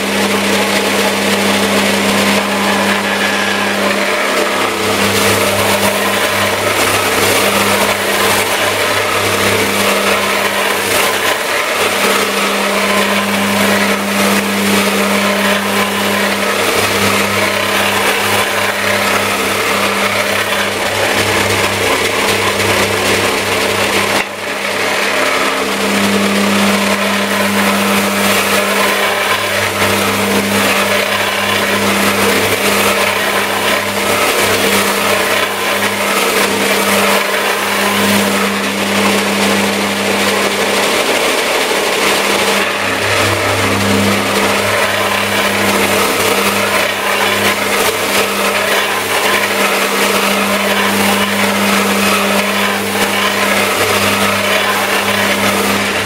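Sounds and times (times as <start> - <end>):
belt sander grinding hiss: 0.0 - 56.0
belt sander motor hum: 0.0 - 56.0.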